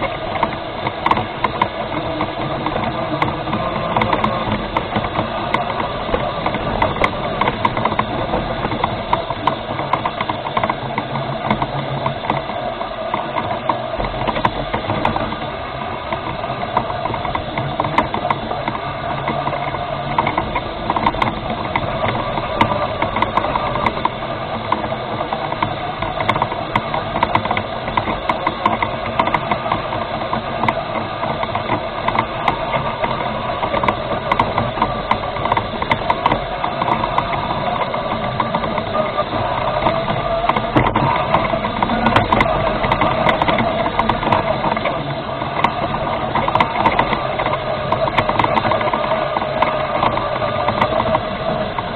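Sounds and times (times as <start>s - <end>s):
rover rattling: 0.0s - 51.9s
toy rover motor whirring: 0.0s - 51.9s.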